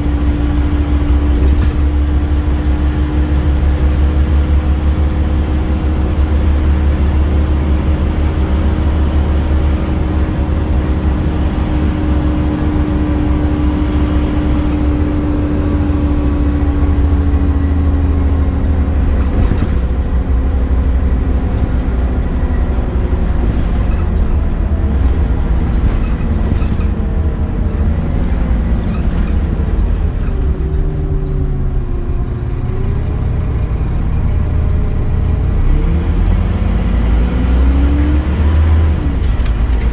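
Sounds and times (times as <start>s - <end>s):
bus engine rumbling: 0.0s - 39.9s.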